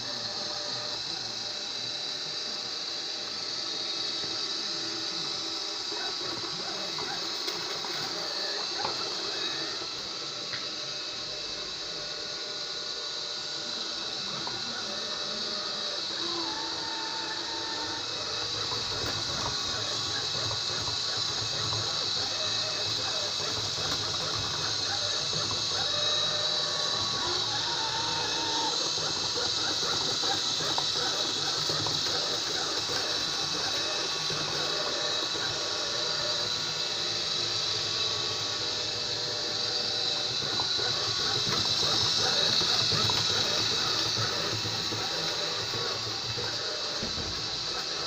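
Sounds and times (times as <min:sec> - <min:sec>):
robot vacuum cleaner running: 0:00.0 - 0:48.0.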